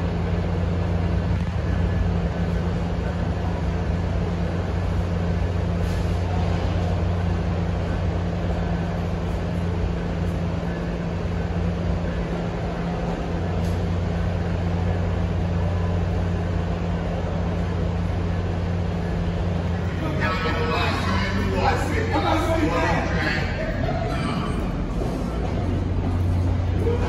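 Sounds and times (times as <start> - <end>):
low two-tone hum: 0.0 - 27.0
train engine drone: 0.0 - 27.0.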